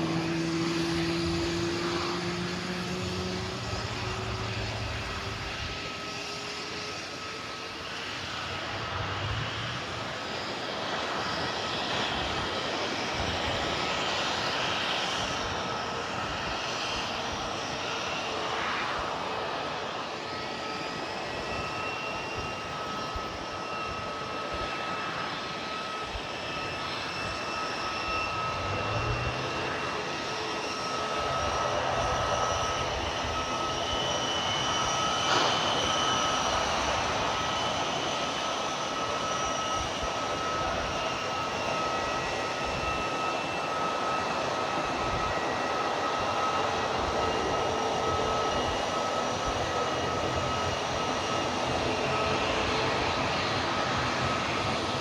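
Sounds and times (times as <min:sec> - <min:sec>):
airliner engines whining: 0:00.0 - 0:55.0.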